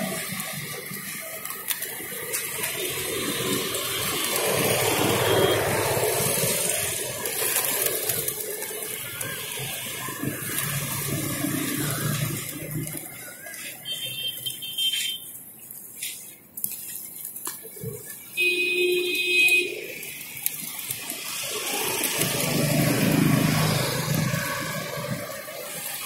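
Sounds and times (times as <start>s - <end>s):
pigeons wings flapping: 0.0s - 26.0s.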